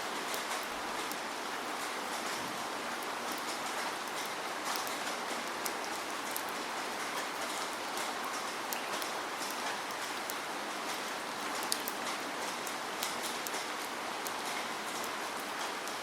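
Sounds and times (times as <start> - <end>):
raindrops ticking on a surface: 0.0 - 16.0
steady rain falling: 0.0 - 16.0.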